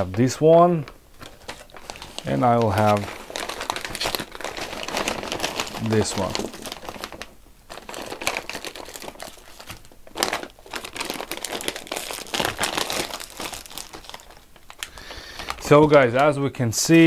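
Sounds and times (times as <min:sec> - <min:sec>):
plastic and foil packets crinkling: 0:00.0 - 0:16.6.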